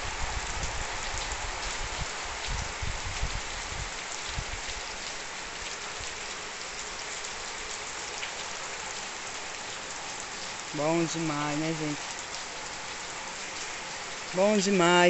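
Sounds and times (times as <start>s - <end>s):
heavy rain on concrete and tiles: 0.0s - 15.0s.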